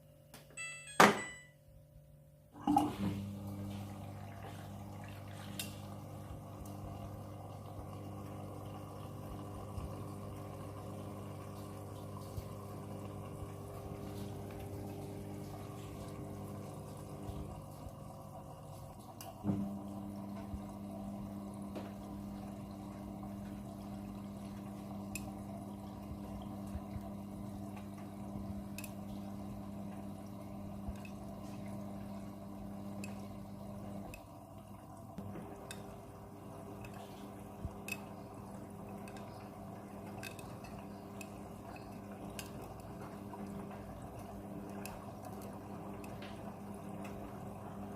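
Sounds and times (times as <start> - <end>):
steady mechanical hum: 0.0 - 47.9
higher steady hum: 2.3 - 47.9
water running and dripping: 2.7 - 47.9.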